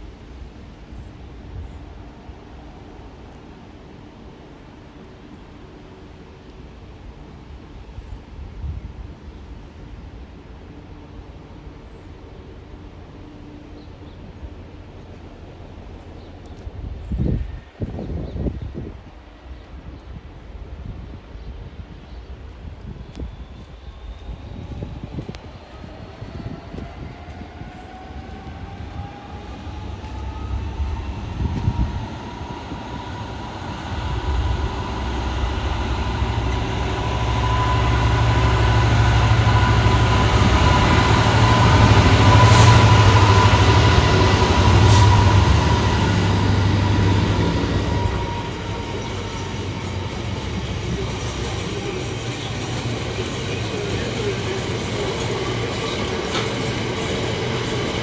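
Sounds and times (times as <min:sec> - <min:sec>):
diesel locomotive rumble and whine: 0:00.0 - 0:58.0.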